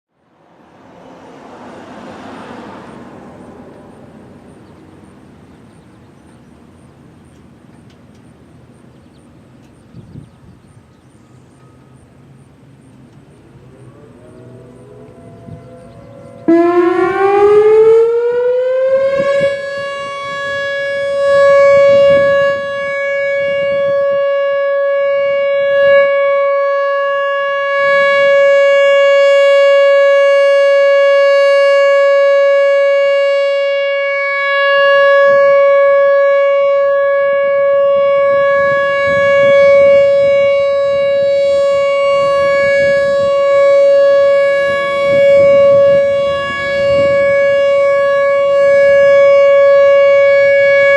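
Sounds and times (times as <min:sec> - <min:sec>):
warning siren: 0:00.1 - 0:50.9.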